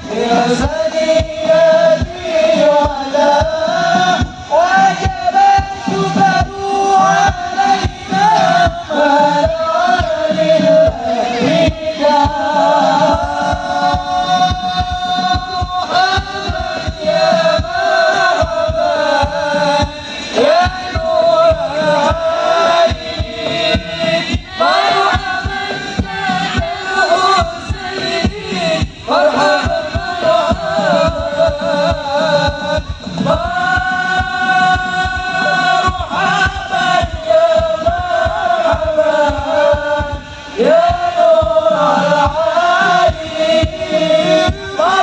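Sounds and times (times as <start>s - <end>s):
frame drums rhythm: 0.0s - 45.0s
men singing in unison: 0.0s - 45.0s.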